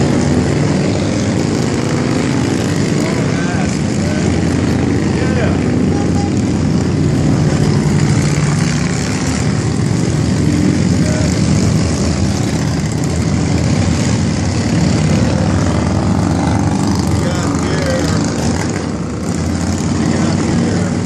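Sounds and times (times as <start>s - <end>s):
motorcycles riding past: 0.0s - 21.0s.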